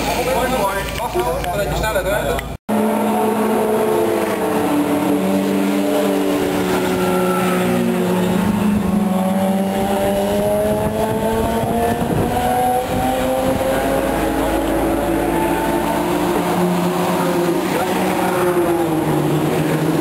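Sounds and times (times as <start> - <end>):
racing car engine accelerating: 2.7 - 20.0.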